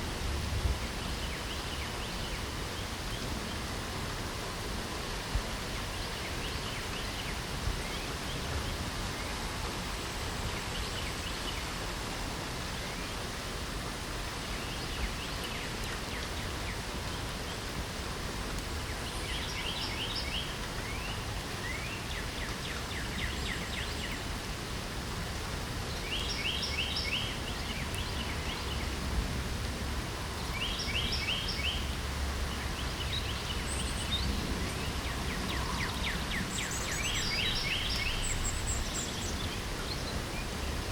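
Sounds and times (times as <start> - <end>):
light rain hissing: 0.0 - 40.9
songbirds chirping: 0.6 - 40.9.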